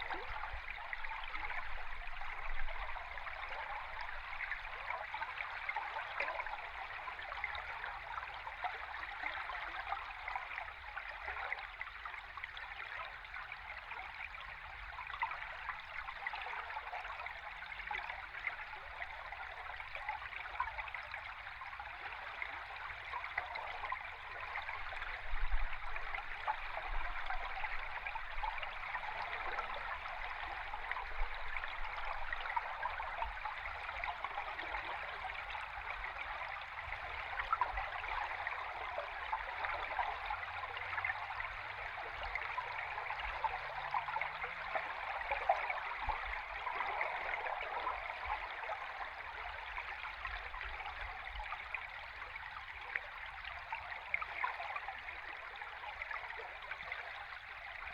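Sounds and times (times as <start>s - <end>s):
underwater river rushing and bubbling: 0.0s - 12.4s, 13.1s - 57.9s.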